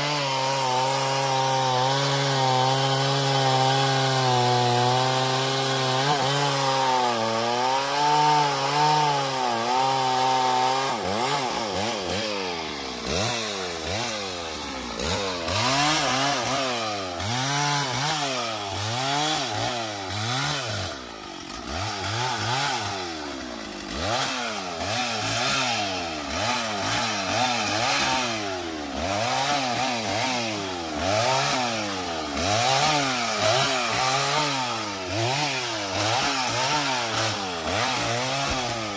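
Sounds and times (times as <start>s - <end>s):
chainsaw cutting and revving: 0.0s - 38.9s.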